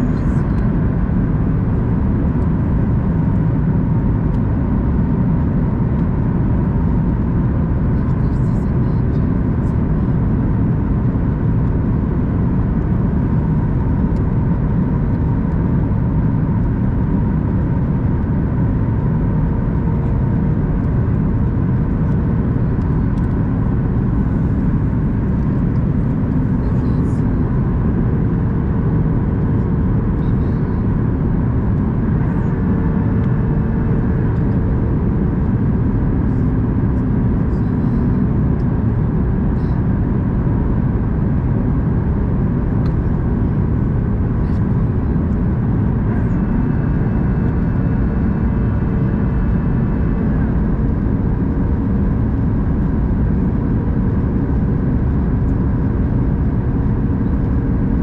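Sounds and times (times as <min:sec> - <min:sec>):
airplane cabin engine rush: 0:00.0 - 0:58.0
faint steady hum: 0:00.0 - 0:58.0.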